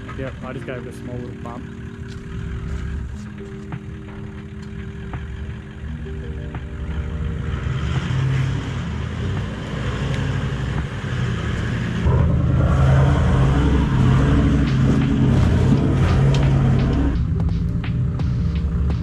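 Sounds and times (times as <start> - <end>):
engine working under load: 0.0 - 19.0.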